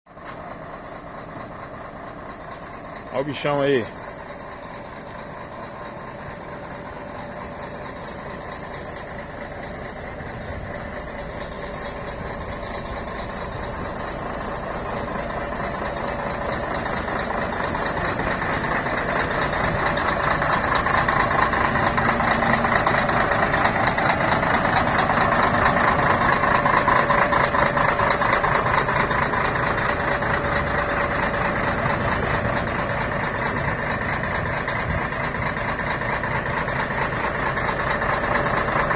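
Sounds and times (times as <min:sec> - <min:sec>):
coach diesel engine running: 0:00.1 - 0:38.9.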